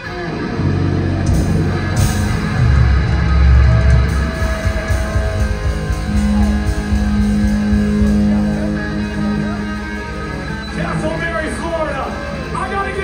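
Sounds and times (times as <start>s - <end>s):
amplified electric guitar: 0.0s - 13.0s.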